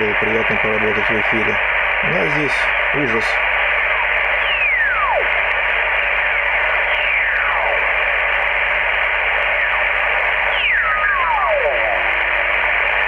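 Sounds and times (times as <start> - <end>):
radio band noise hiss: 0.0 - 13.0.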